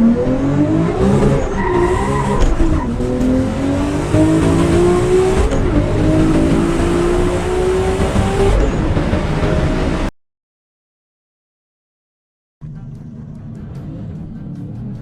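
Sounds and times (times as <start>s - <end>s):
sports car engine accelerating: 0.0s - 10.1s, 12.6s - 15.0s.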